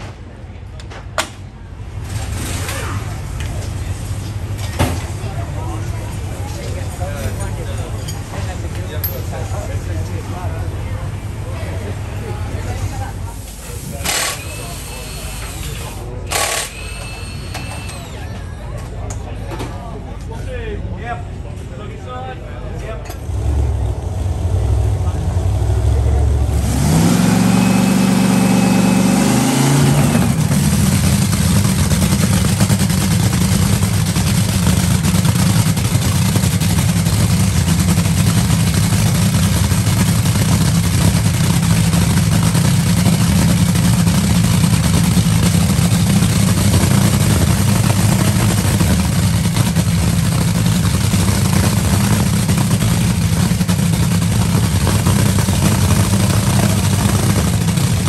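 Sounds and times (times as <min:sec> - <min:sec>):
dragster engine running loud: 0:02.0 - 0:18.2, 0:23.2 - 0:58.0.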